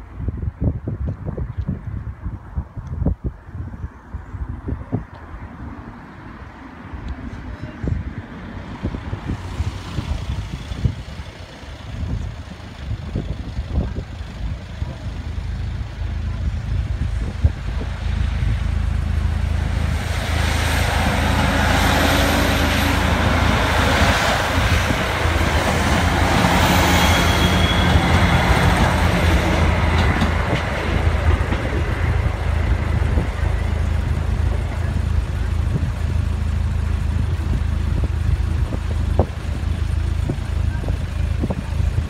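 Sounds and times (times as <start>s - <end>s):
diesel train engine drone: 0.0s - 42.0s
train wheel rumble: 5.1s - 42.0s.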